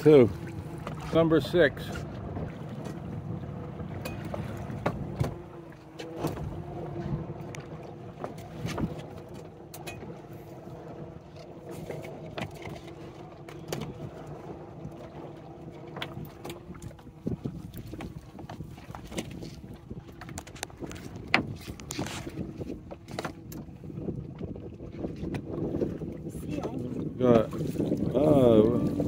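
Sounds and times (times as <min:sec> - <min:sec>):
water on hull: 0:00.0 - 0:29.0
wind: 0:00.0 - 0:29.0.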